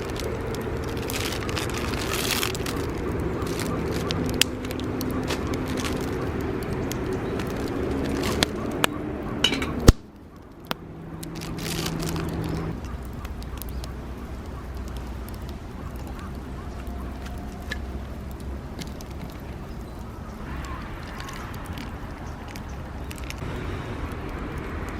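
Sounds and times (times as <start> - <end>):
campfire pops and cracks: 0.0 - 24.9.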